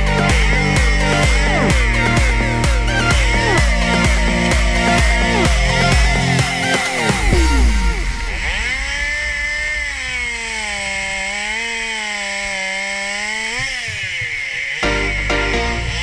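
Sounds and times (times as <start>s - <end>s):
chainsaw revving and cutting: 0.0s - 16.0s.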